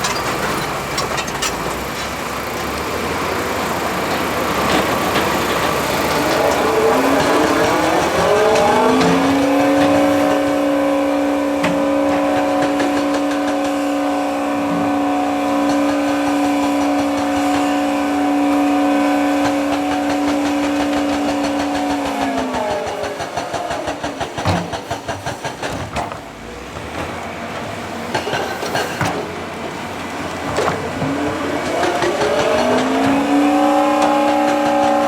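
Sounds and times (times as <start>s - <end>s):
construction machine engine revving: 0.0s - 35.0s.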